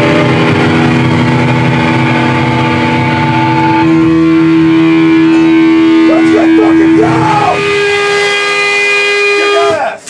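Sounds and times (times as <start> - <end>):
distorted electric guitar drone: 0.0 - 9.7
guitar feedback tones: 0.0 - 10.0.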